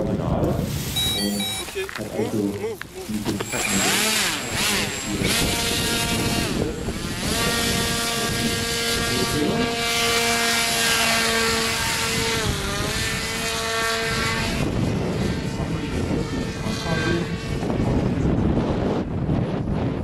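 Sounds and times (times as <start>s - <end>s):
wind on microphone: 0.0s - 20.0s
propeller motor whine: 0.9s - 20.0s.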